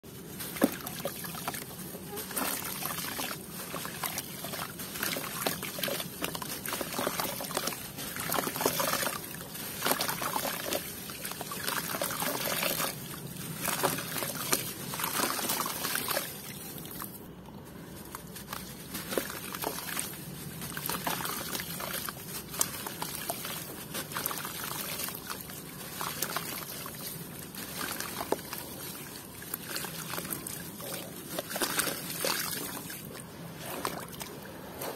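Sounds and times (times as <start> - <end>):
dry dirt crackling: 0.0 - 34.9
muddy water splashing: 0.1 - 17.3, 18.0 - 34.9.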